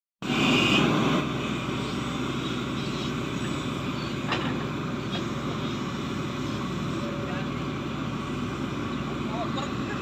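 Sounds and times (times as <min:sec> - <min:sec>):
excavator diesel engine running: 0:00.2 - 0:10.0.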